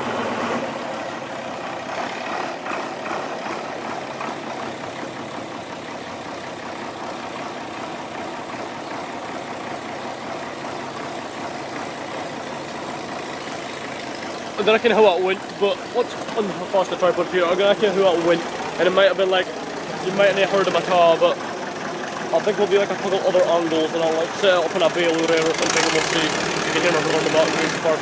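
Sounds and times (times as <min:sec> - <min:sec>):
diesel tractor engine running: 0:00.0 - 0:28.0.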